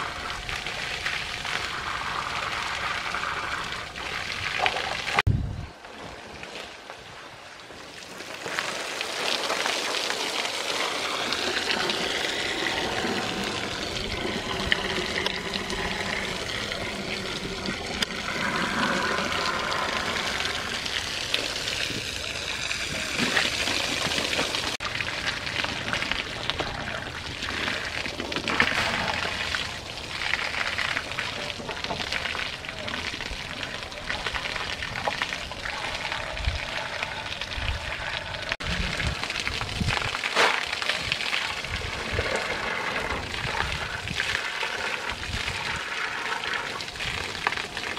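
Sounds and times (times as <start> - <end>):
hose water spraying and splashing: 0.0 - 5.3, 6.0 - 47.9.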